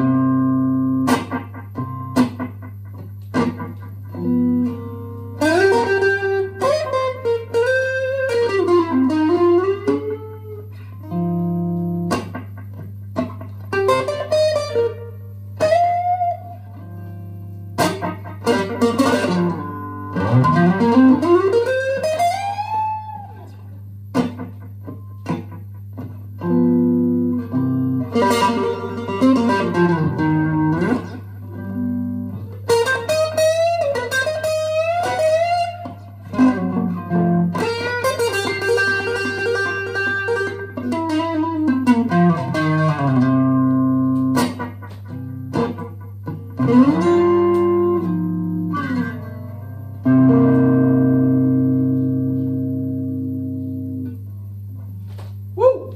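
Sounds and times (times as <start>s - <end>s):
electric guitar blues lead: 0.0s - 55.9s.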